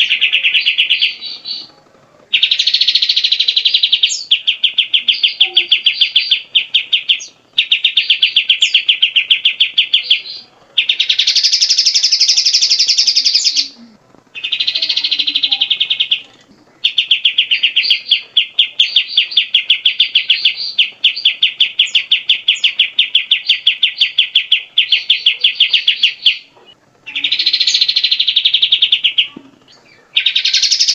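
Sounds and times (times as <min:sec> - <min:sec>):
bird chattering song: 0:00.0 - 0:30.9.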